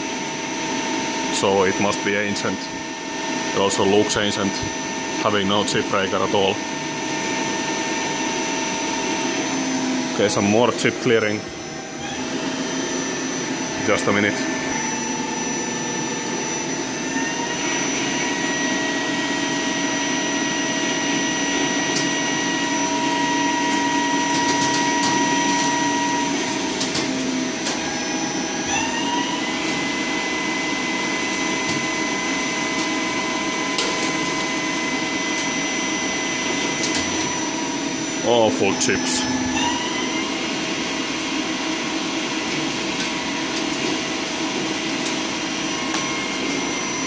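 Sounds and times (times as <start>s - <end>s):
lathe whirring: 0.0s - 47.0s
spindle drive whine: 0.0s - 47.0s.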